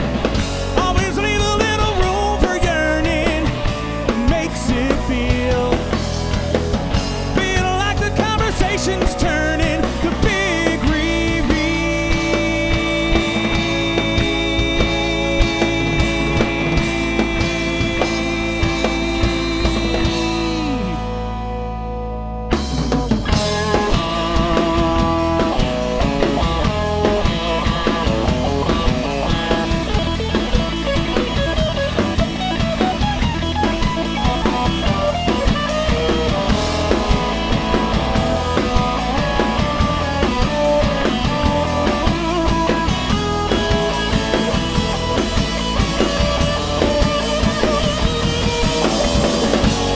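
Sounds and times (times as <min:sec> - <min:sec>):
drums crashing: 0:00.0 - 0:21.8, 0:22.5 - 0:49.9
rock band playing live: 0:00.0 - 0:49.9.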